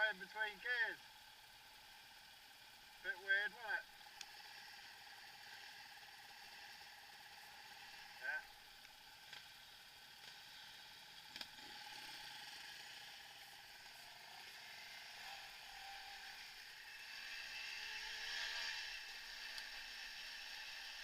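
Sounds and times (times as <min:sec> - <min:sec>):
bicycle drivetrain whirring: 0:00.0 - 0:21.0.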